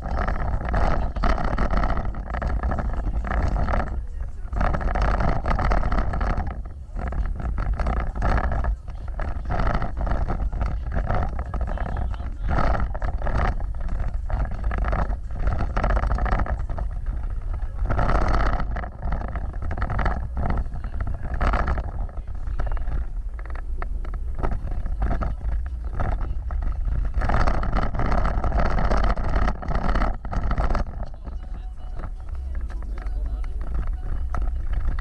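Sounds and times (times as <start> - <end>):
knocks and rattles: 0.0 - 35.0
low engine rumble: 0.0 - 35.0.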